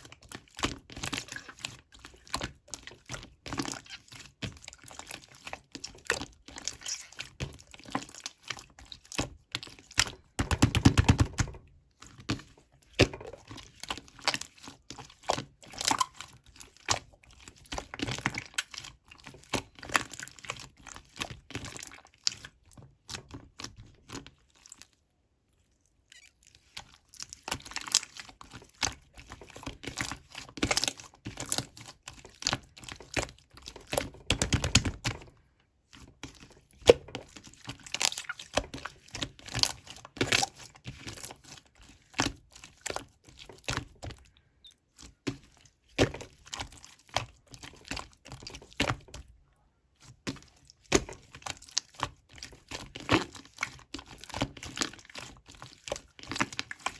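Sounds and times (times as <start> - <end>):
slime squished by hand: 0.0 - 35.3, 35.9 - 49.3, 50.0 - 56.9.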